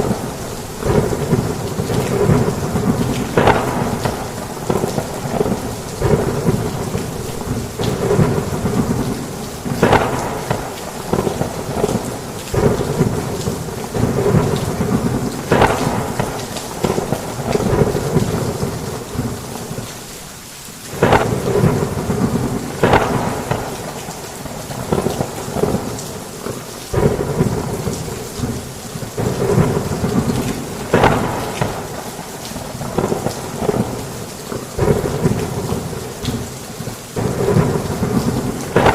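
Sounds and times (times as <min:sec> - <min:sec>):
thunder rumbles and cracks: 0:00.0 - 0:19.9, 0:20.9 - 0:38.9
heavy rain hiss: 0:00.0 - 0:38.9.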